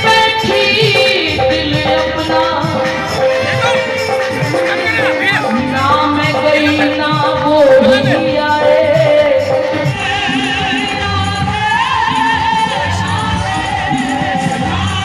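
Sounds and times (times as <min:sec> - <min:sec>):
musical accompaniment: 0:00.0 - 0:15.0
person singing devotional song: 0:00.0 - 0:15.0.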